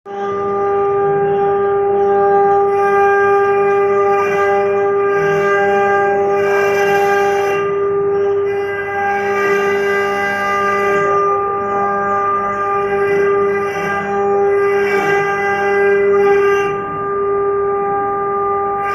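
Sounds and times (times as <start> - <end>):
spindle high-pitched whine: 0.1 - 18.9.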